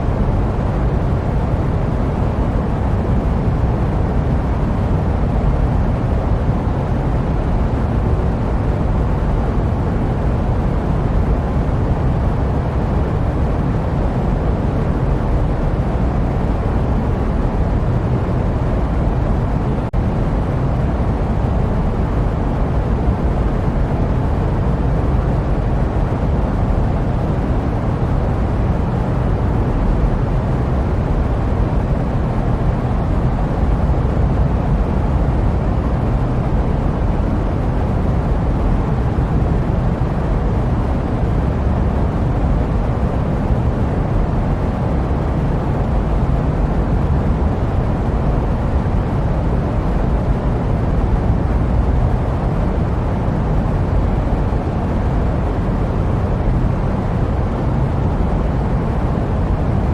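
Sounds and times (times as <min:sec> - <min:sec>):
steady jet aircraft rumble: 0:00.0 - 0:59.9.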